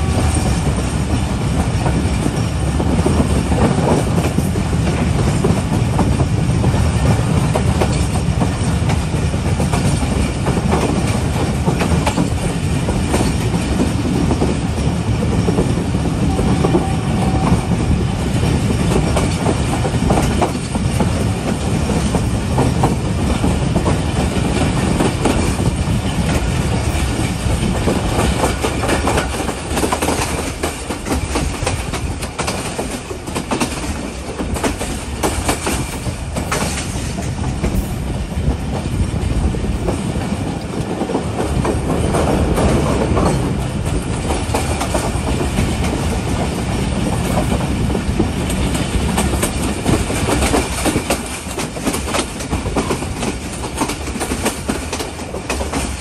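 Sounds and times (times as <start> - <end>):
clickety-clack of wheels: 0.0 - 56.0
train rumbling on rails: 0.0 - 56.0.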